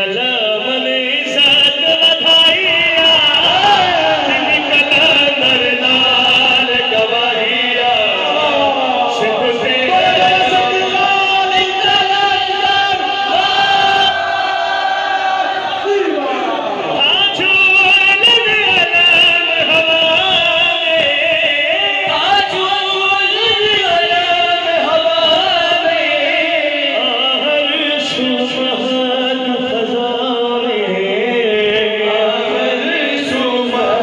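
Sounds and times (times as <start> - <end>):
men singing together: 0.0 - 15.8, 16.9 - 34.0.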